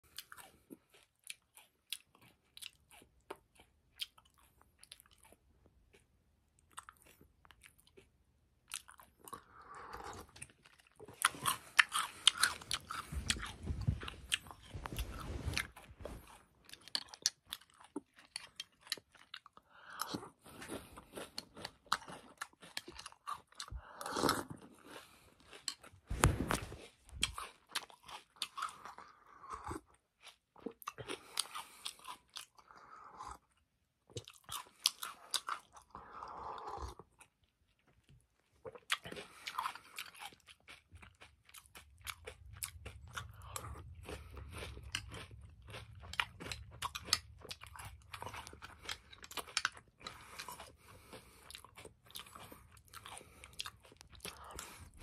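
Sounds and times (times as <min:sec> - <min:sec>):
crunching and chewing cereal: 0:00.0 - 0:55.0.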